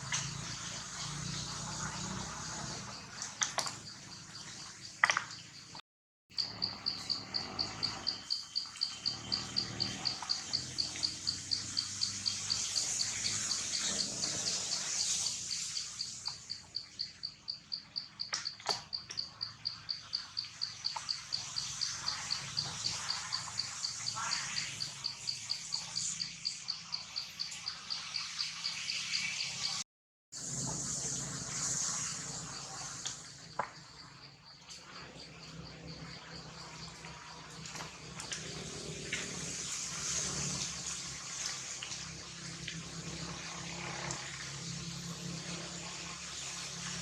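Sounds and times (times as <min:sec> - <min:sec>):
cricket chirping: 0:01.6 - 0:29.8, 0:30.9 - 0:47.0.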